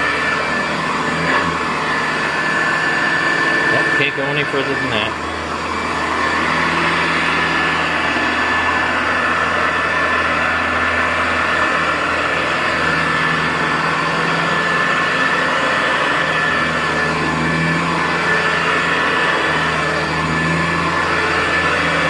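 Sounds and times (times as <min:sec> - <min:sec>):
vacuum cleaner running on carpet: 0:00.0 - 0:22.0.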